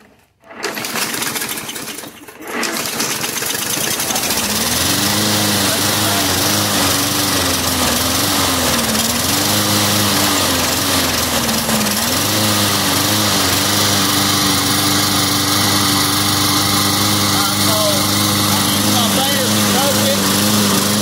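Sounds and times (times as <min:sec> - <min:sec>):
push-mower engine running: 0:00.4 - 0:21.0.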